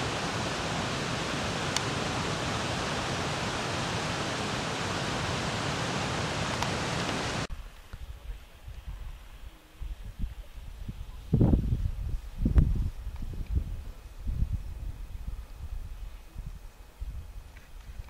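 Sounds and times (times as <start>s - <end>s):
steady hiss: 0.0s - 18.0s
wind rumble on microphone: 0.0s - 18.0s.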